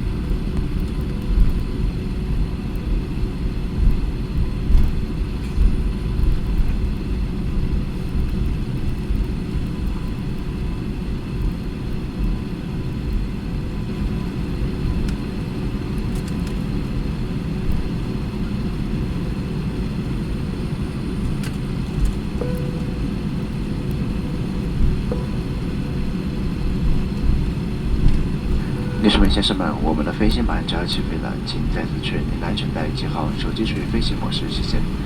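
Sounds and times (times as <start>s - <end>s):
faint steady whines: 0.0s - 35.0s
idling jet engines rumble: 0.0s - 35.0s.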